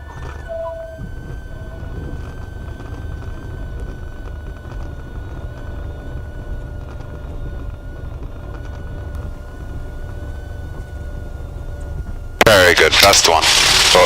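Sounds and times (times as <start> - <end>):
propeller plane engine rumbling: 0.0 - 14.0
thin steady tones: 0.0 - 14.0.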